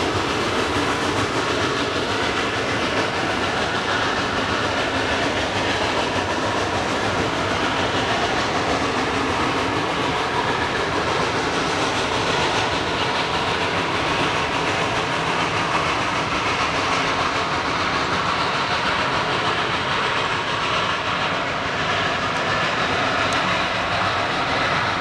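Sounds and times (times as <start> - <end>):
steam train passing: 0.0 - 25.0
wheels on rails: 0.0 - 25.0.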